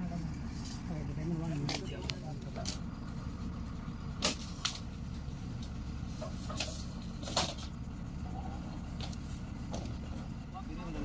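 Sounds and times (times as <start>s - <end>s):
drilling rig engine rumbling: 0.0s - 11.0s.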